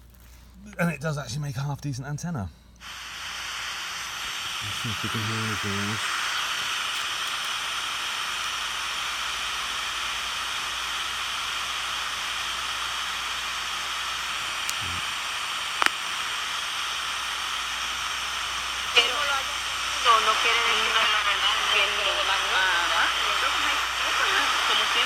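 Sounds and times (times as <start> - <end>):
radio static and hiss: 2.8 - 25.0.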